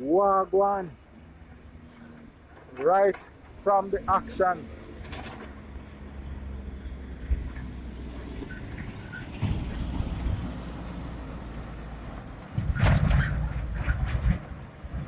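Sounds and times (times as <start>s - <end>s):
heavy vehicle engines rumbling: 0.0s - 15.0s.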